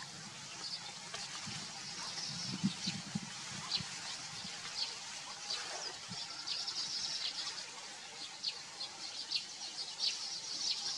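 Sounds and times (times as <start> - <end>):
birds chirping: 0.4 - 10.9.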